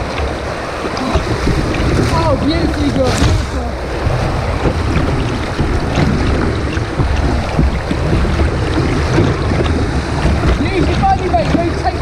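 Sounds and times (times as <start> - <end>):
white water rushing: 0.0 - 12.0
wind buffeting microphone: 0.0 - 12.0.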